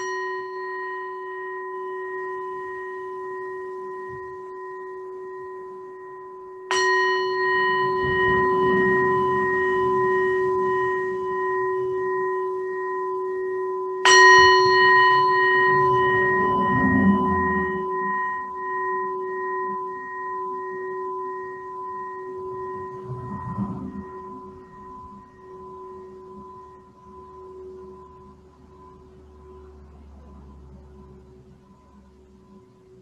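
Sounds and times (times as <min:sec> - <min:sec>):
meditation bell ringing: 0:00.0 - 0:33.0.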